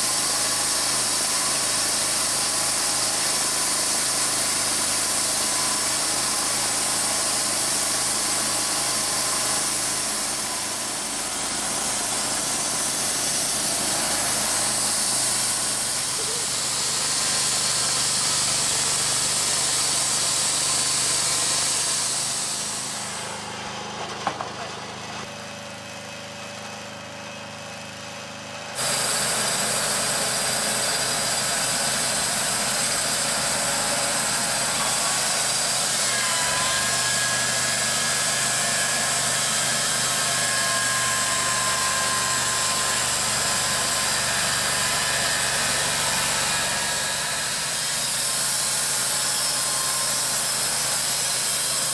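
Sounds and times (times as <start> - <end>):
sawmill engine running: 0.0 - 51.9
band blade cutting log: 0.1 - 23.2, 28.8 - 51.9.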